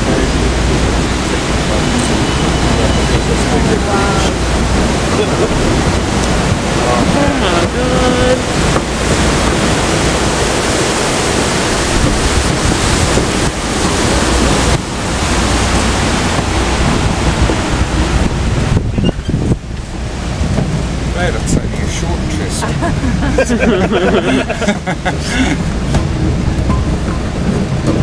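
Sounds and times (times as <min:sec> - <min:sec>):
moving train rumble: 0:00.0 - 0:28.0
wind buffeting microphone: 0:00.0 - 0:28.0.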